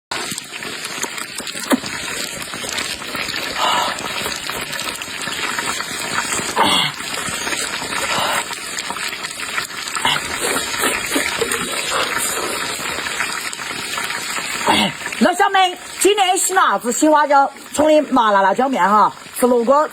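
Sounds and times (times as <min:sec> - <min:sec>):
water gushing: 0:00.1 - 0:19.9.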